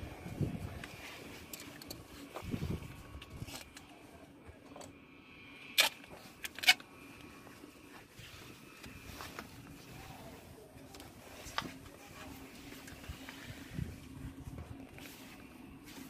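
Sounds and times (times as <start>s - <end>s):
faint background noise: 0.0s - 16.0s.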